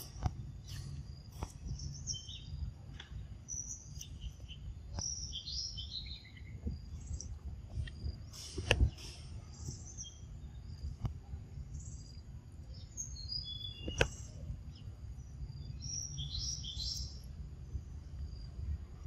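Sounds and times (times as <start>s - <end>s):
birds chirping: 0.0s - 18.1s
steady low rumble: 0.0s - 19.0s.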